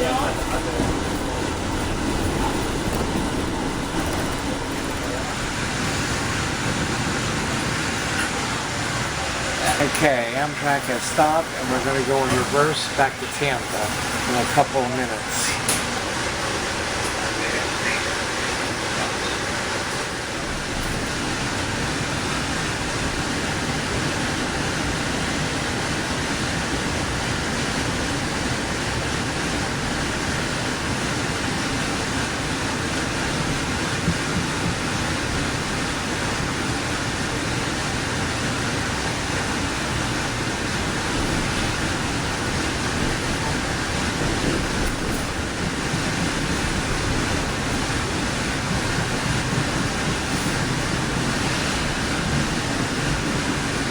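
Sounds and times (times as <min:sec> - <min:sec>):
rushing noise inside train car: 0:00.0 - 0:53.9.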